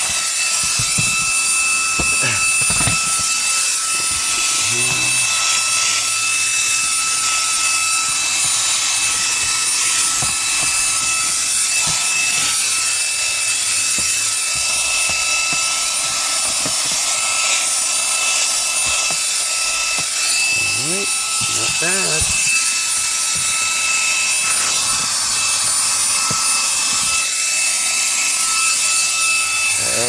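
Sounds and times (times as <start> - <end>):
handheld vacuum motor whine: 0.0 - 30.0.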